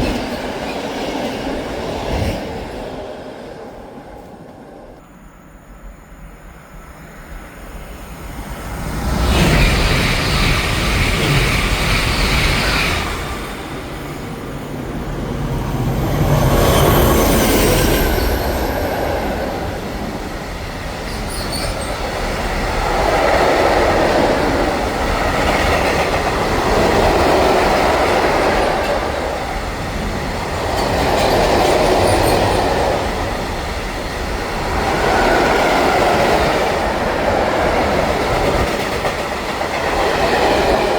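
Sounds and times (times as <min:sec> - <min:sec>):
train passing on track: 0:00.0 - 0:40.9.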